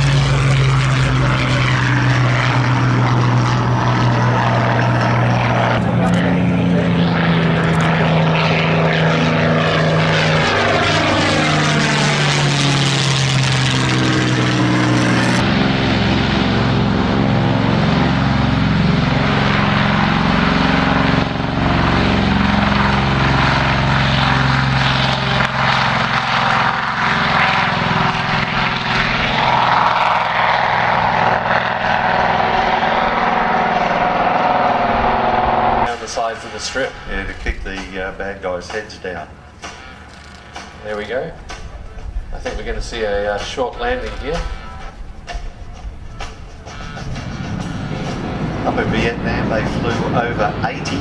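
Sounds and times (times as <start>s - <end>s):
higher engine tone: 0.0s - 51.0s
propeller aircraft flying past: 0.0s - 51.0s
propeller engine drone: 0.0s - 51.0s.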